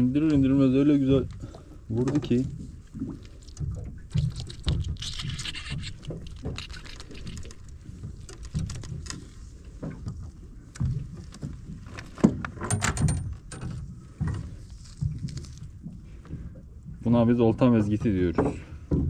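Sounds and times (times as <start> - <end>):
gear knocking and rattling in boat: 0.0 - 19.0.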